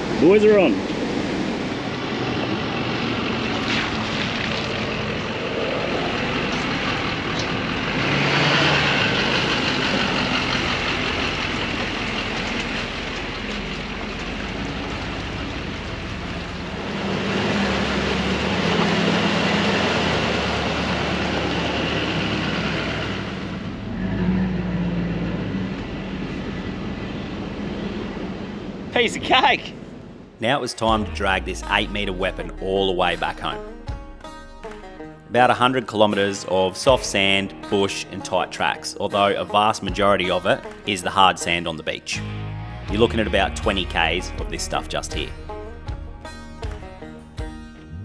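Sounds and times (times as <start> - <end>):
truck engine running: 0.0 - 29.2, 30.0 - 36.1, 42.2 - 48.0.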